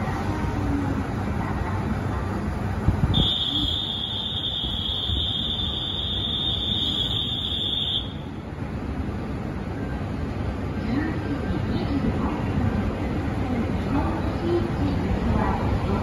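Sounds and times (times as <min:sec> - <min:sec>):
diesel railcar idling: 0:00.0 - 0:16.0.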